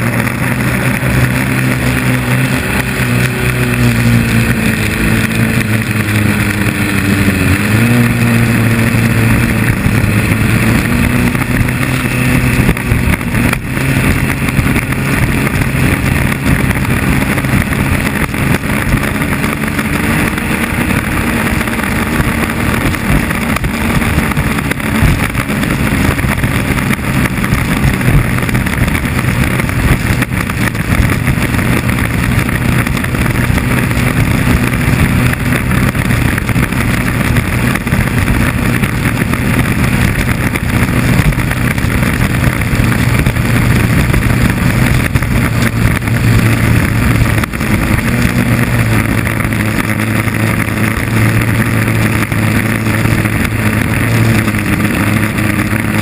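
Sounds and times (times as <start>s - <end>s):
boat engine at high revs: 0.0s - 56.0s
rush of wind and water: 0.0s - 56.0s.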